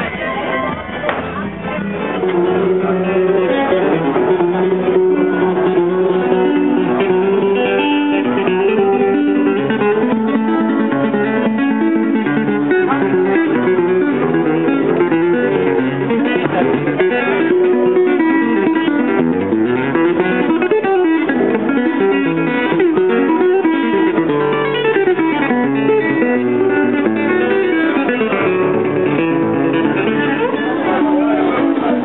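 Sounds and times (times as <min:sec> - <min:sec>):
fingerstyle acoustic guitar: 0:00.0 - 0:32.0.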